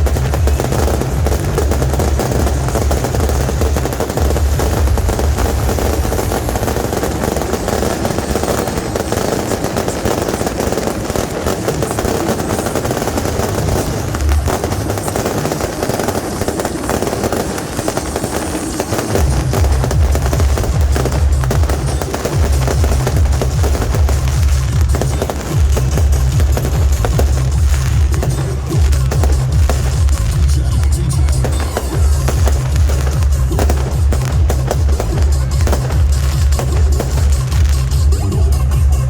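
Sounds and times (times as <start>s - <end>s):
firecrackers crackling: 0.0s - 39.0s.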